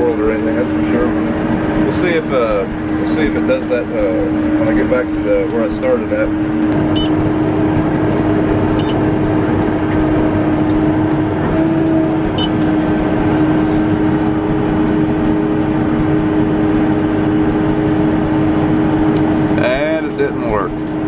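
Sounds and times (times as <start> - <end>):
tractor engine droning: 0.0 - 21.0.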